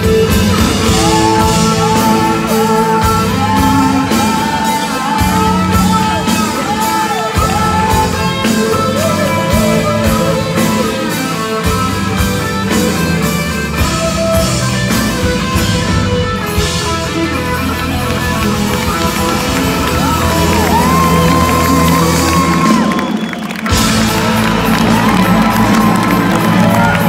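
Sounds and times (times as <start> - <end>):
bass guitar: 0.0 - 27.0
drums playing steady beat: 0.0 - 27.0
electric and acoustic guitars: 0.0 - 27.0.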